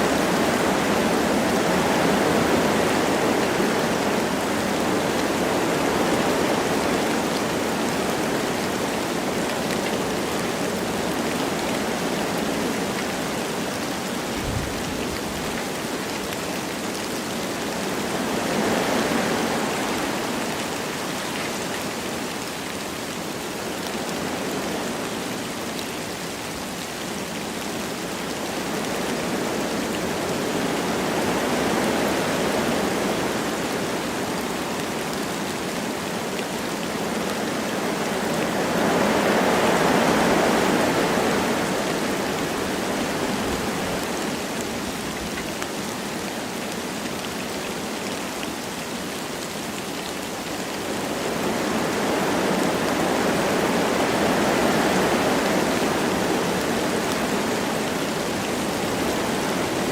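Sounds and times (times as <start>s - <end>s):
light rain falling: 0.0s - 59.9s
wind through trees: 0.0s - 59.9s.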